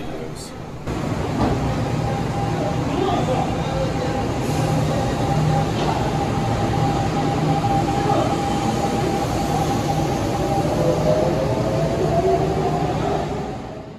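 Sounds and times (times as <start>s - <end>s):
wheels rumbling on rail: 0.0s - 13.9s
electric train motor whine: 0.9s - 13.0s.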